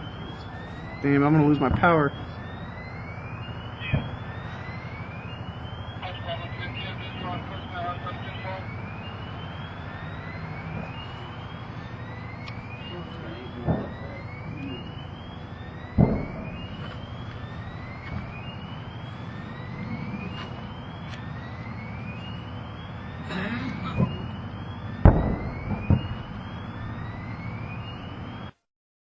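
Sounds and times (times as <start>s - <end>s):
rising electronic alarm tone: 0.0s - 28.5s
engine rumble: 0.0s - 28.6s.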